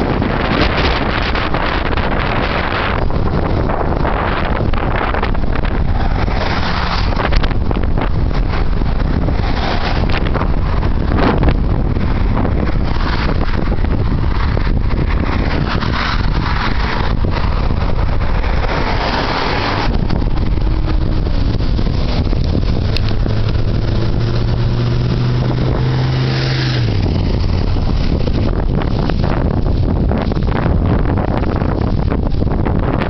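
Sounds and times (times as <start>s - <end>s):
vehicle engine hum: 0.0s - 33.0s
wind buffeting microphone: 0.0s - 33.0s.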